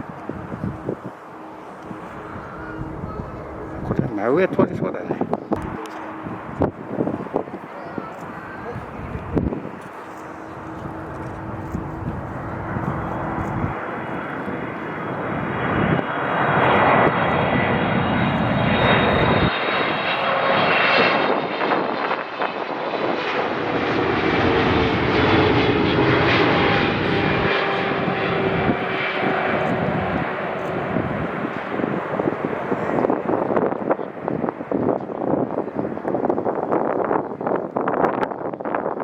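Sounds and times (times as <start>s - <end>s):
jet airliner passing overhead: 0.0s - 39.0s.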